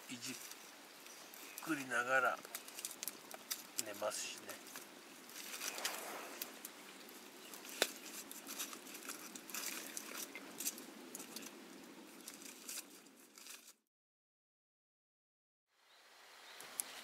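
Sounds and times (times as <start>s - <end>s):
crackling and rustling: 0.0s - 13.9s.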